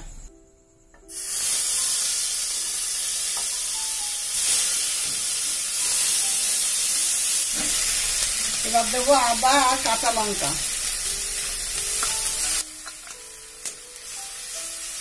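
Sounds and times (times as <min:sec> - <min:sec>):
onion paste sizzling in hot oil: 0:01.1 - 0:15.0.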